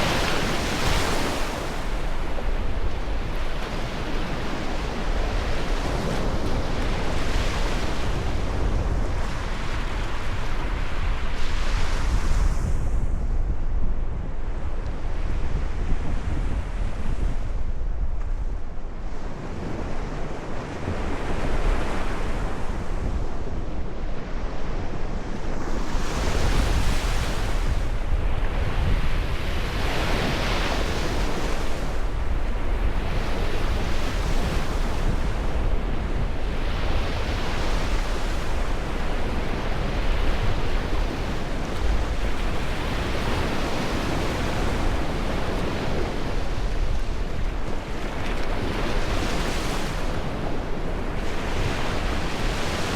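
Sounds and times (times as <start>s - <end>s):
ocean waves breaking: 0.0s - 12.7s, 18.9s - 52.9s
wind rumble on microphone: 0.0s - 52.9s.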